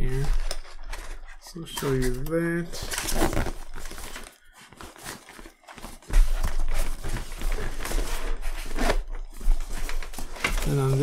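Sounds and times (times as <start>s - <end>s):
fabric bag rustling: 0.1s - 11.0s.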